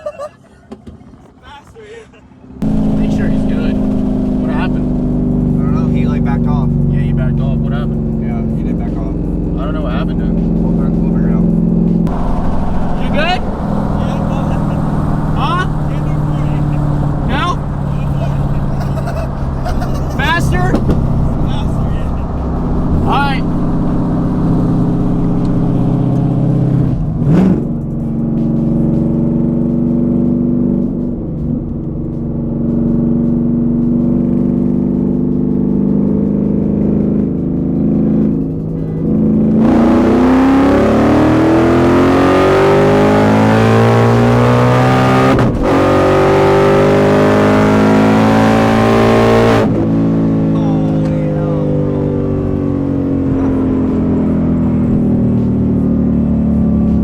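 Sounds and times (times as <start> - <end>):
car engine accelerating: 2.4 - 57.0.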